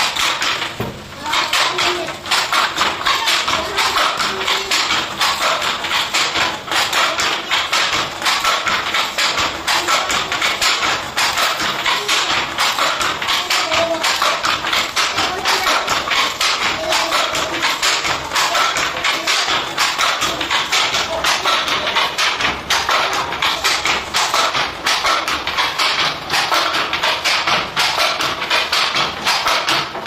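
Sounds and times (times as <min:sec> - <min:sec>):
wooden handloom clacking: 0:00.0 - 0:30.0
wooden knocks of beater and shuttle: 0:00.0 - 0:30.0.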